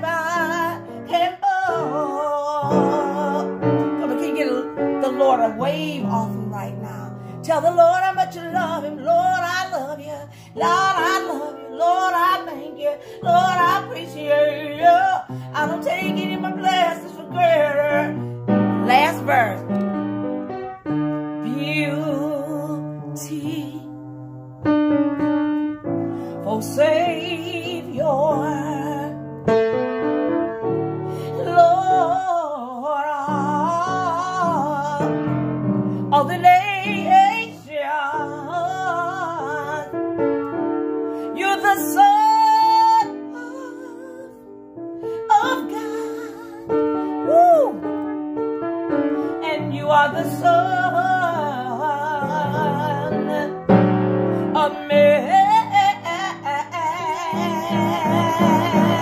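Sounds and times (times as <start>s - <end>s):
woman singing gospel melody: 0.0s - 19.6s, 21.4s - 24.0s, 26.3s - 29.2s, 31.2s - 40.0s, 41.2s - 44.5s, 45.2s - 47.8s, 49.3s - 53.8s, 54.4s - 59.0s
piano chords: 0.0s - 59.0s.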